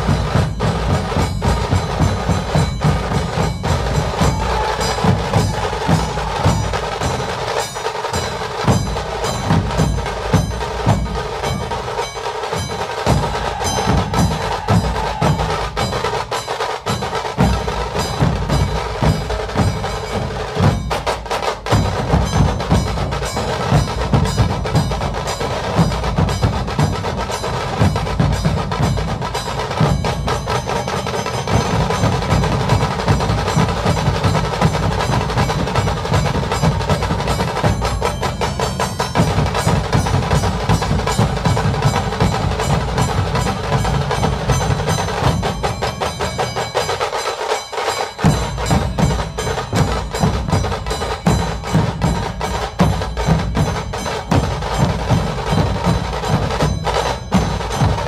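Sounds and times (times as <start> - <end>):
music with fast percussion: 0.0 - 58.0.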